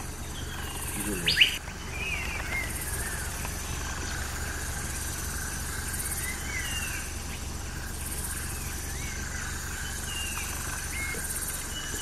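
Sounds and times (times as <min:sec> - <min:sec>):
bird chirps: 0:00.0 - 0:12.0
steady low rumble: 0:00.0 - 0:12.0.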